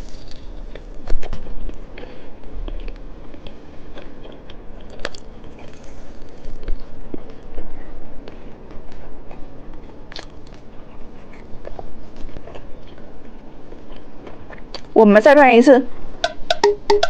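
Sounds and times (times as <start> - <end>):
person chewing candy: 0.0 - 15.0.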